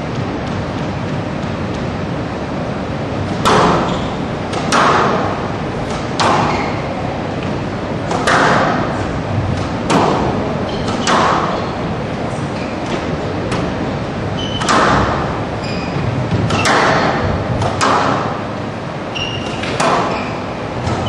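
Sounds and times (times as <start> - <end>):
squash ball hitting rackets and walls: 0.0 - 2.0, 3.2 - 21.0
hall background noise: 0.0 - 21.0.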